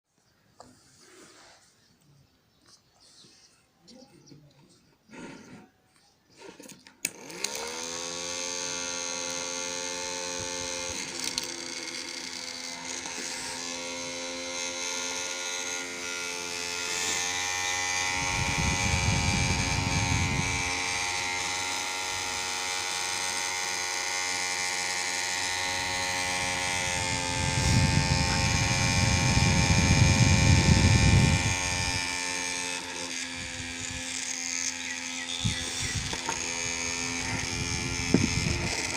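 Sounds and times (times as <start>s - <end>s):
small motor whining: 5.0s - 38.9s.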